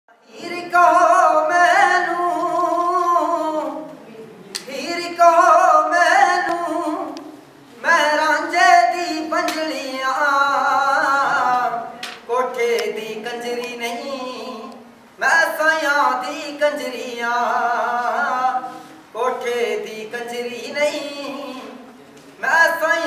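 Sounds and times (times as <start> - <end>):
man singing unaccompanied: 0.1 - 4.0, 4.6 - 23.0.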